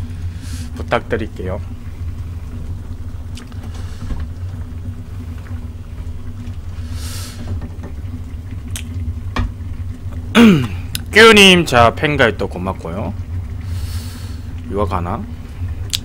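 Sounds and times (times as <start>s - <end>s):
low rumble and hum: 0.0s - 16.0s.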